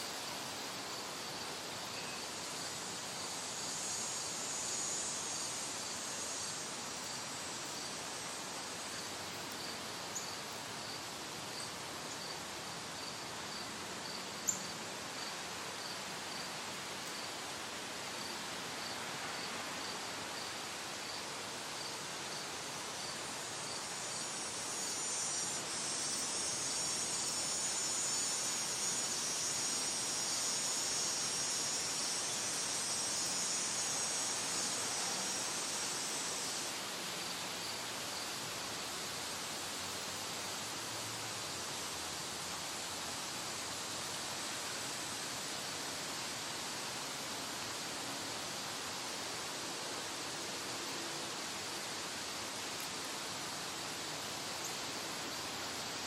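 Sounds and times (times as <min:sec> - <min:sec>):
background hiss: 0:00.0 - 0:56.0
cricket chirping: 0:00.0 - 0:56.0
high insect buzz: 0:00.0 - 0:56.0.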